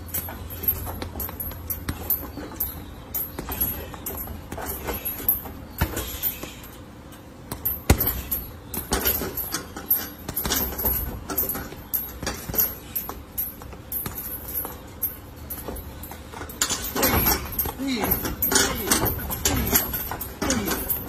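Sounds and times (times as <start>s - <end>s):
boxing gloves punching heavy bag: 0.0s - 6.8s, 7.5s - 21.0s.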